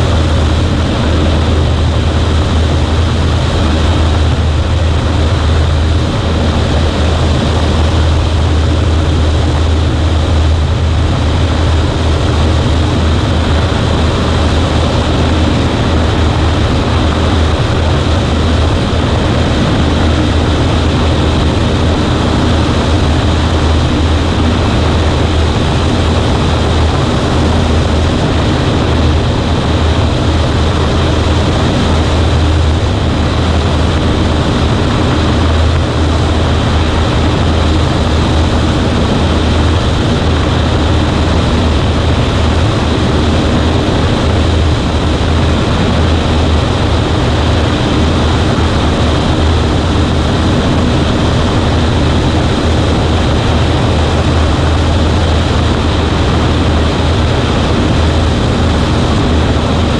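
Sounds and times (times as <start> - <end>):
light plane engine droning: 0.0 - 59.9.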